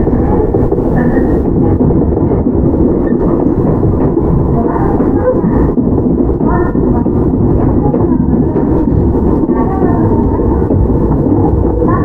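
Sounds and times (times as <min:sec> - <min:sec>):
faint voices: 0:00.0 - 0:12.0
train carriage rumble: 0:00.0 - 0:12.0.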